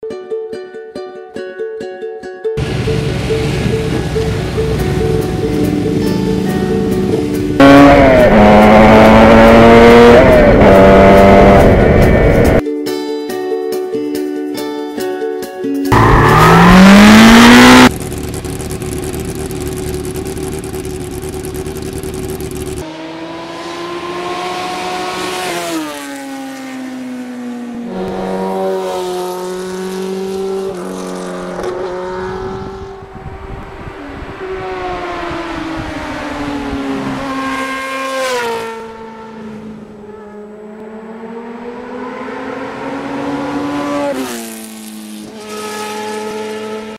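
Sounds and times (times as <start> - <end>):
motorcycle engine accelerating: 2.6 - 12.6, 15.9 - 46.9.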